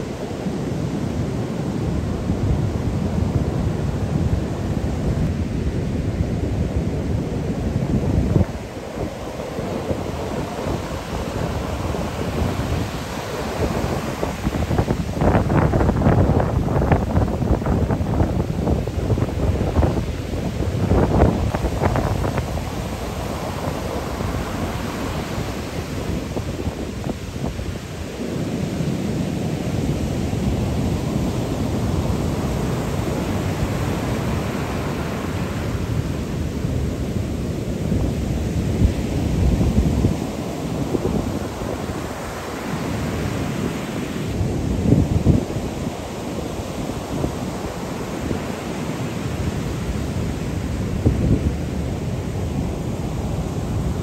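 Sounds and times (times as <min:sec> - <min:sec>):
waves rumbling: 0:00.0 - 0:54.0.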